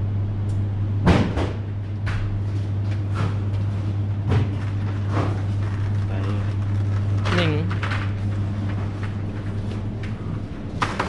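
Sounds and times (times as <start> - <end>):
refrigerated display cases humming: 0.0 - 11.0.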